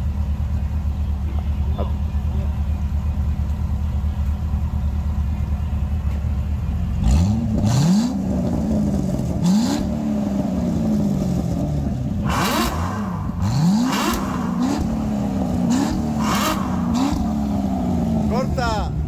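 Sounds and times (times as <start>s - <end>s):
sports car engine idling and revving: 0.0s - 19.0s.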